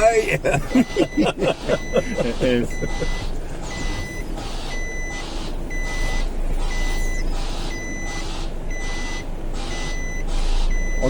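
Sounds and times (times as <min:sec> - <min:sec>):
lorry engine running: 0:00.0 - 0:11.0
reversing alarm beeps: 0:00.7 - 0:11.0.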